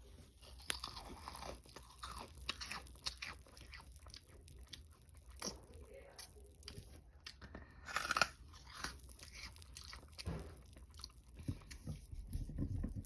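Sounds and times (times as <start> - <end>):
person chewing crunchy food: 0.0 - 12.1.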